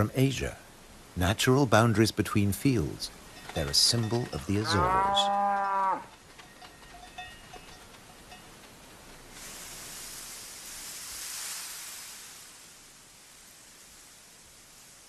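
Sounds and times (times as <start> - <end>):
soft even hiss: 0.0 - 4.6, 6.4 - 15.0.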